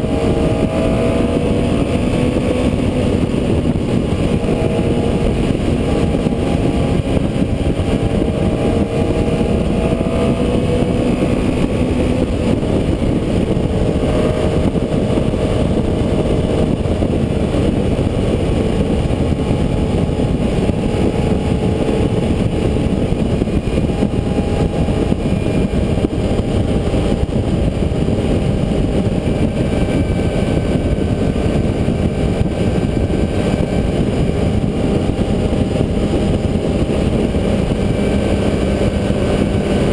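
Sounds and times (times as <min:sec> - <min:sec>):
motorcycle engine: 0:00.0 - 0:39.9
wind rumble on helmet: 0:00.0 - 0:39.9.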